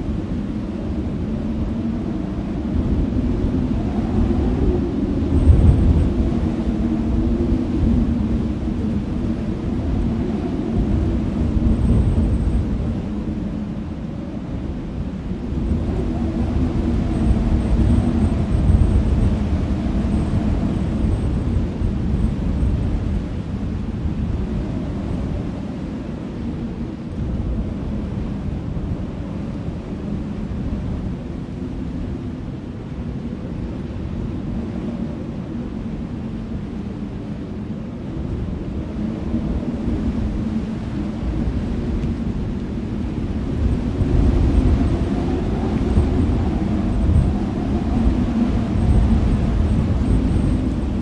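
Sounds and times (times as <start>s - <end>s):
wind gusting over microphone: 0.0s - 51.0s.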